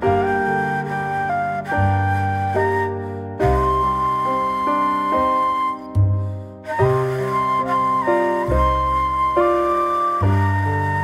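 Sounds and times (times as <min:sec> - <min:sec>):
slow soft instrumental music: 0:00.0 - 0:11.0.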